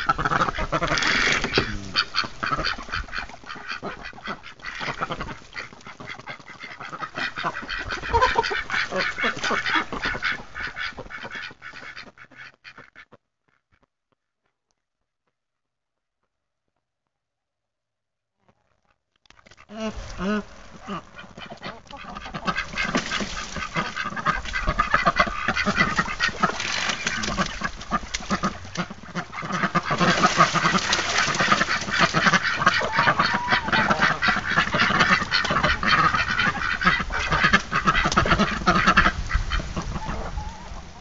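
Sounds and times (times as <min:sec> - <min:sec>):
flock of chickens calling: 0:00.0 - 0:12.1, 0:19.7 - 0:41.0.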